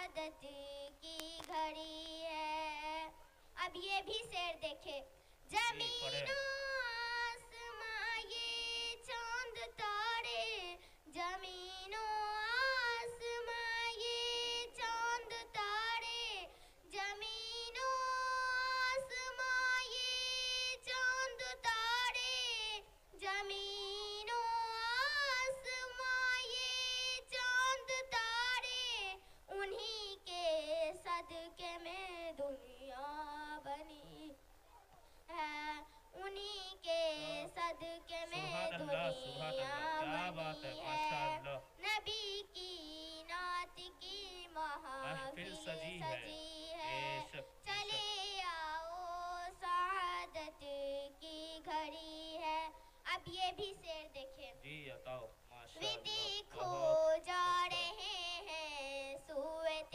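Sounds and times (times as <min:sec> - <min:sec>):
girl singing into a microphone: 0:00.0 - 0:34.4, 0:35.3 - 0:54.7, 0:55.7 - 0:59.9.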